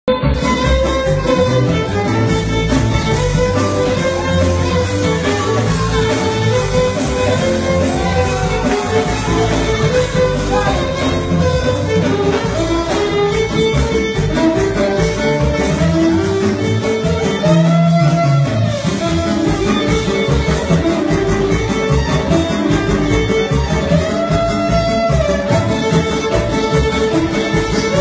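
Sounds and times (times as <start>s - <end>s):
violin melody: 0.1s - 28.0s
backing track with beat and bass: 0.2s - 28.0s.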